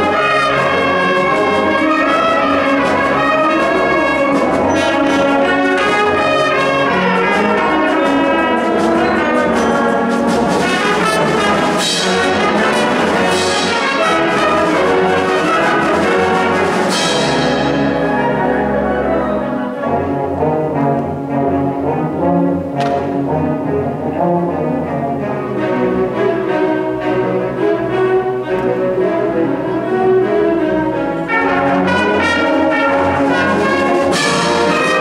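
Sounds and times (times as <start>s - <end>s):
wind band playing: 0.0s - 35.0s.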